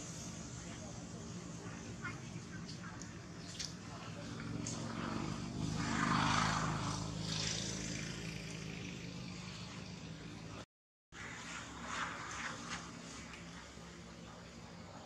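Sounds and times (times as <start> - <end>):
aircraft engine droning: 0.0 - 10.6, 11.2 - 15.0.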